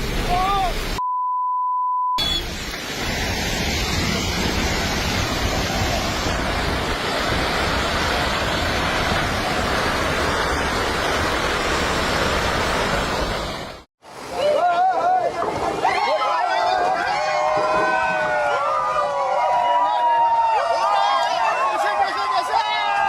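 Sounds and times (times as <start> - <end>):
landslide roar: 2.2 - 23.0.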